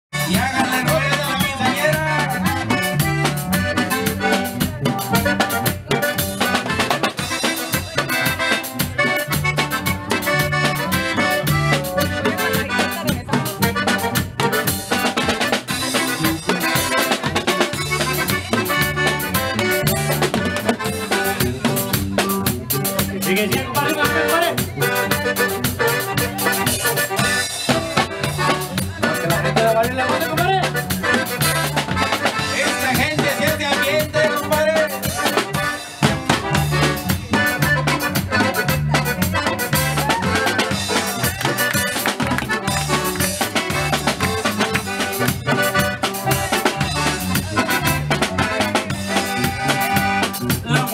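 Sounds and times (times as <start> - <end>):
accordion: 0.1 - 50.9
band playing dance tune: 0.1 - 50.9.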